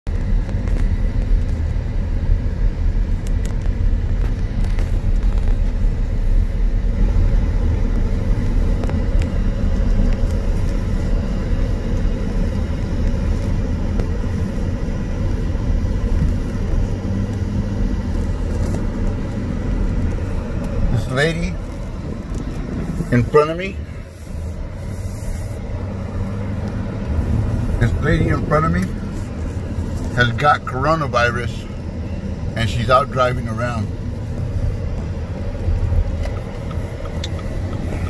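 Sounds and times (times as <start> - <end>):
car engine and tyre noise: 0.0 - 38.0.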